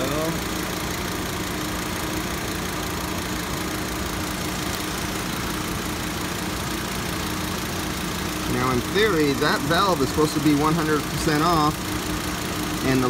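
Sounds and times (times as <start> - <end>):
motor humming steadily: 0.0 - 13.0.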